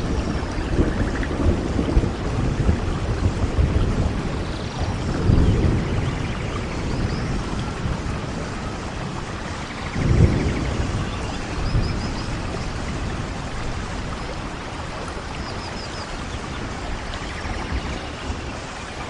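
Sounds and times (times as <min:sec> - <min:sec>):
rain hissing: 0:00.0 - 0:19.0.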